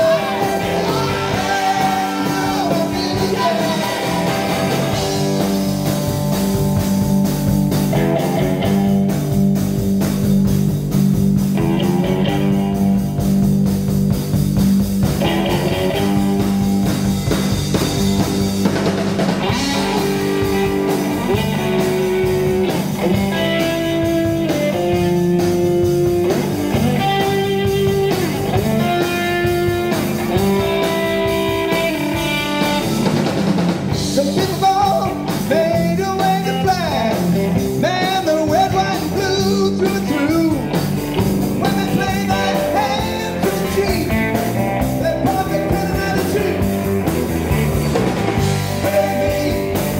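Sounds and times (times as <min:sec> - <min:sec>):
drum kit: 0:00.0 - 0:49.9
electric bass: 0:00.0 - 0:49.9
electric guitar lead: 0:00.0 - 0:49.9.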